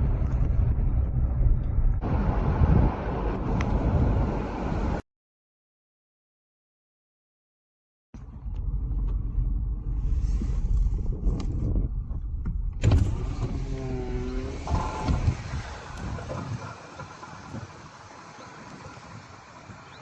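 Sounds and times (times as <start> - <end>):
road and engine rumble: 0.0 - 5.0, 8.2 - 20.0
wind noise: 0.0 - 5.0, 8.2 - 20.0.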